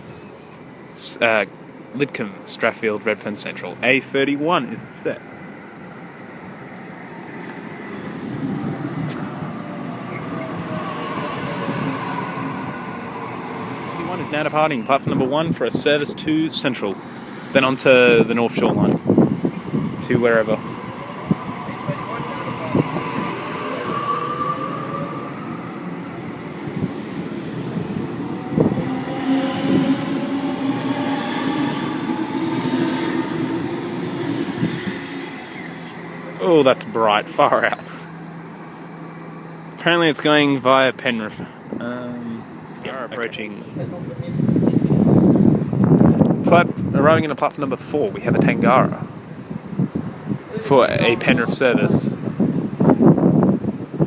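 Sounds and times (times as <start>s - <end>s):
electric train rumble: 2.9s - 54.0s.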